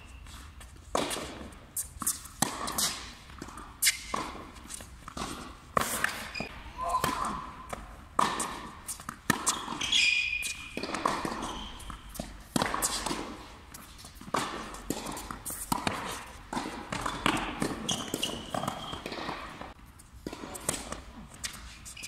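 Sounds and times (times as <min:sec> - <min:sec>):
racket striking tennis ball: 0:00.9 - 0:21.7
tennis ball bouncing: 0:00.9 - 0:21.7
sneakers squeaking on court: 0:03.8 - 0:22.0.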